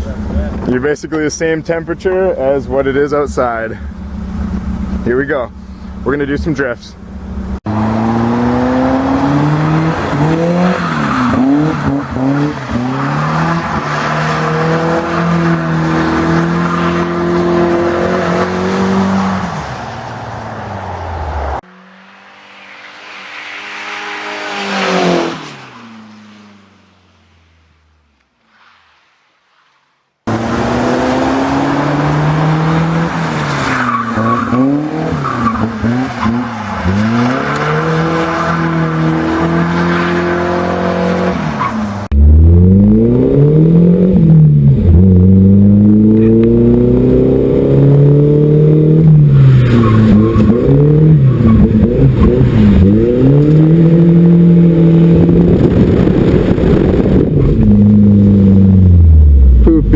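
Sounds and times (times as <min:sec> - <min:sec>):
car engine revving hard: 0:07.4 - 0:26.0, 0:30.3 - 0:59.9.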